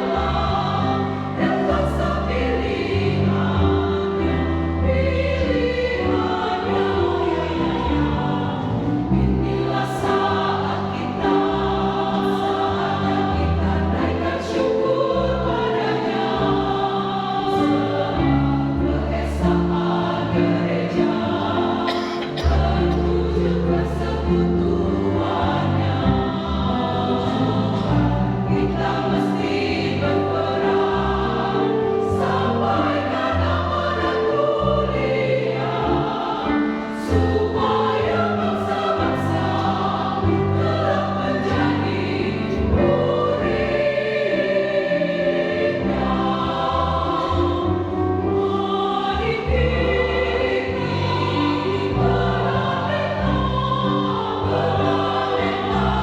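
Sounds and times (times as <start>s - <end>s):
church choir singing: 0.0s - 56.0s.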